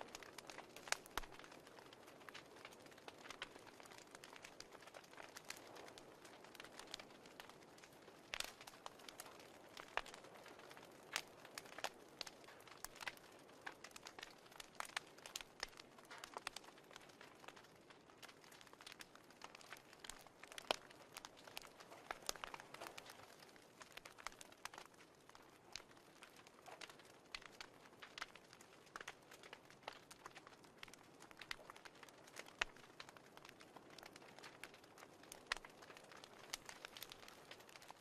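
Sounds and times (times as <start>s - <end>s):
fireplace crackling and popping: 0.0s - 38.0s.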